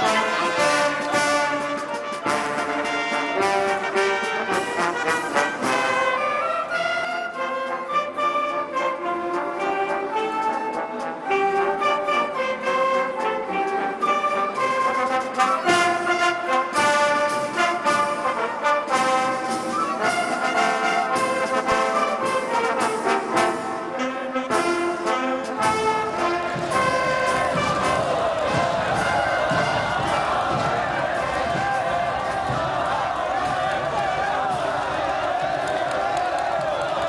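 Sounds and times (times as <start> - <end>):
brass band playing: 0.0 - 37.0
trumpets and trombones melody: 0.0 - 37.0.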